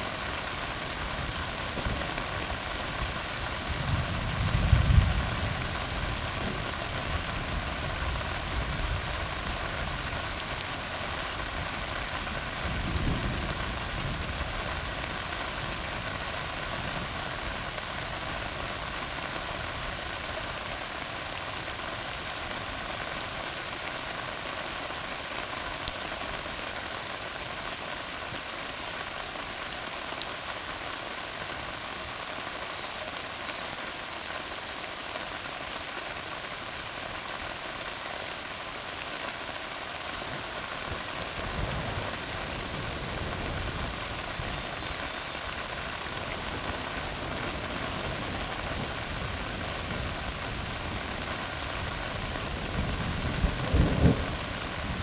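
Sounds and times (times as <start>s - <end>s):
rain falling on road: 0.0s - 55.0s.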